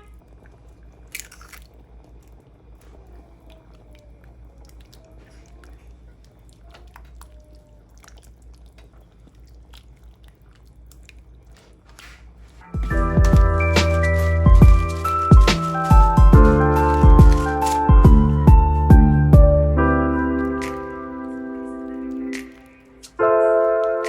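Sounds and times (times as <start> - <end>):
person chewing food: 0.0 - 19.6, 20.2 - 24.0.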